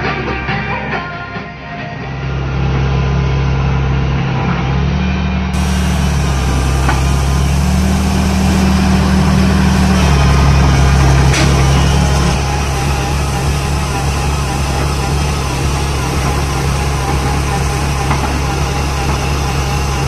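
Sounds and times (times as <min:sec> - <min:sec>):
diesel engines running: 0:02.2 - 0:20.0.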